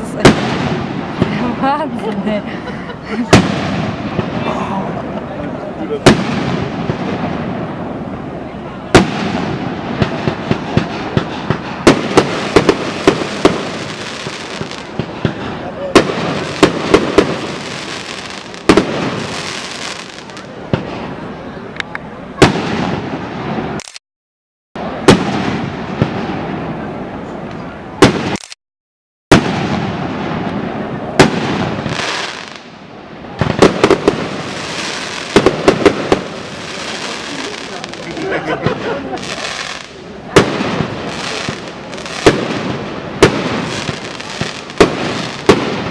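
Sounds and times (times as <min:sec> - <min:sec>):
fireworks bangs and pops: 0:00.0 - 0:02.4, 0:03.2 - 0:08.0, 0:08.8 - 0:21.1, 0:21.8 - 0:24.0, 0:24.8 - 0:26.8, 0:28.0 - 0:28.6, 0:29.3 - 0:45.9
fireworks crackling: 0:00.0 - 0:24.0, 0:24.8 - 0:28.6, 0:29.3 - 0:45.9.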